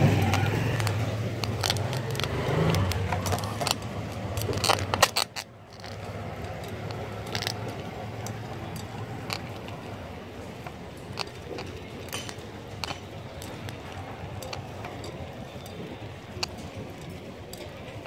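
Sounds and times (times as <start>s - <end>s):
motorcycle engine humming: 0.0s - 18.0s
sharp rattling and clicking: 0.0s - 18.0s.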